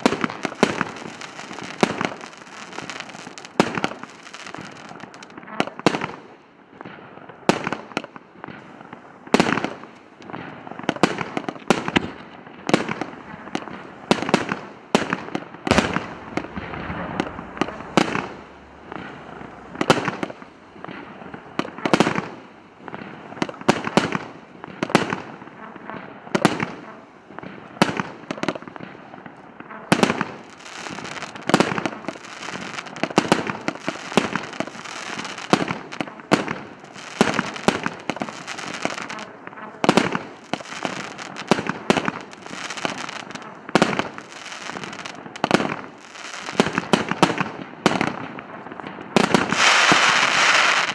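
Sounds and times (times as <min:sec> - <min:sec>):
firework bangs: 0:00.0 - 0:50.9
firework crackling: 0:00.0 - 0:50.9.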